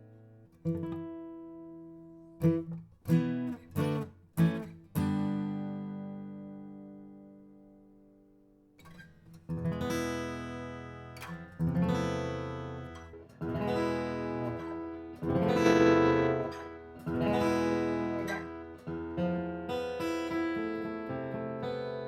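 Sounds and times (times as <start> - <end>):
acoustic guitar strummed chords: 0.0 - 8.1, 9.5 - 22.0.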